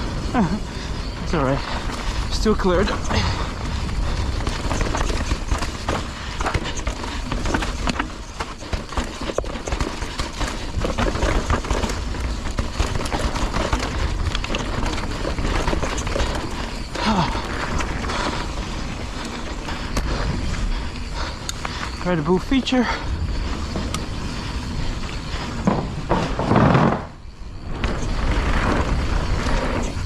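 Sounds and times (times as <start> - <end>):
bike rattling over dirt trail: 0.0 - 30.0
tyre noise: 0.0 - 30.0
wind rumble on microphone: 0.0 - 30.0.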